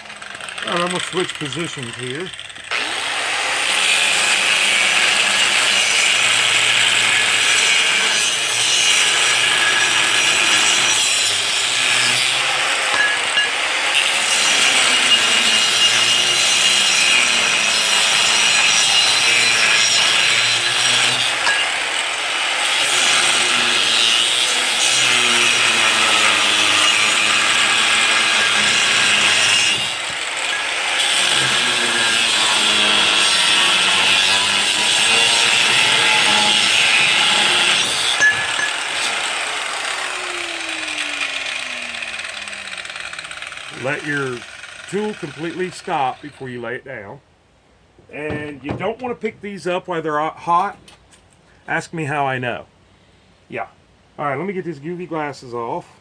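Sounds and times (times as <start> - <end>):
angle grinder cutting steel: 0.0 - 46.5.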